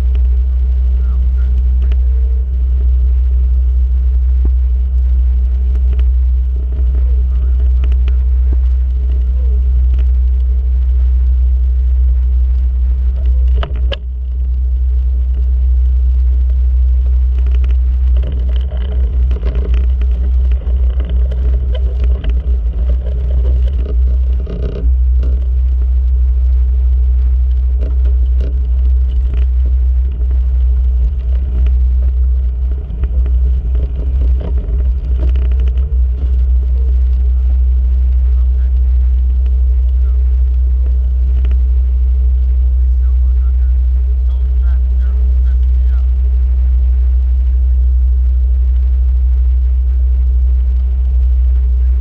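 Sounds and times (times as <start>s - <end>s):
faint scrapes and ticks: 0.0s - 52.0s.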